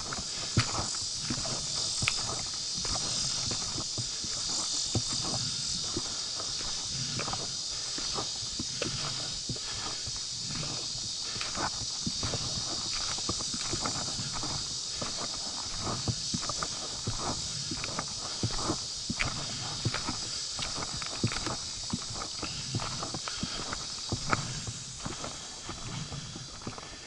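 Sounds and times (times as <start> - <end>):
footsteps on a trail: 0.0 - 27.0
high-pitched insect chorus: 0.0 - 27.0.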